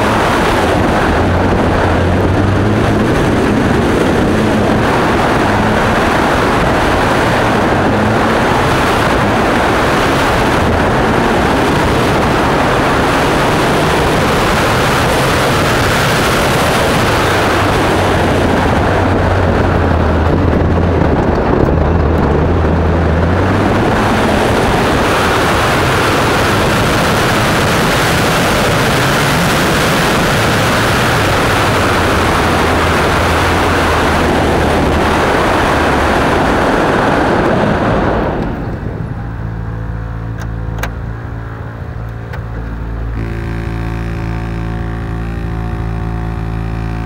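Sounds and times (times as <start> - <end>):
rally car engine: 0.0 - 47.0
wind and tyre noise: 0.0 - 47.0.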